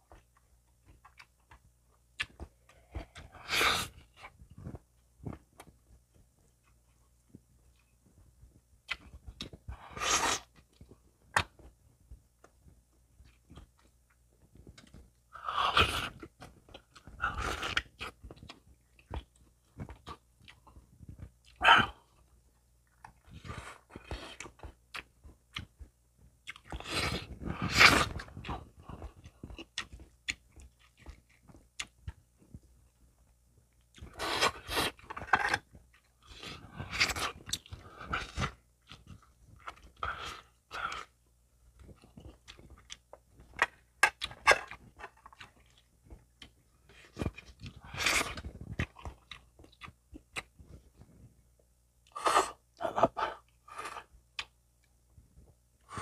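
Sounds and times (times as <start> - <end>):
person chewing and crunching: 0.0 - 7.0, 8.8 - 11.8, 13.2 - 32.6, 33.8 - 51.0.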